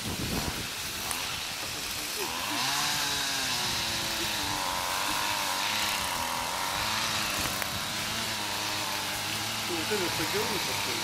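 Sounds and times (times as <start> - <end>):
brush cutter engine revving: 0.0 - 11.0.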